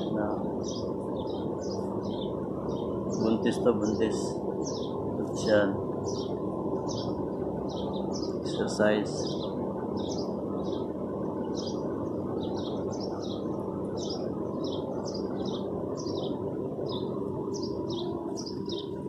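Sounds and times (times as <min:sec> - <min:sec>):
low background noise: 0:00.0 - 0:19.0
small bird chirping: 0:00.0 - 0:19.0.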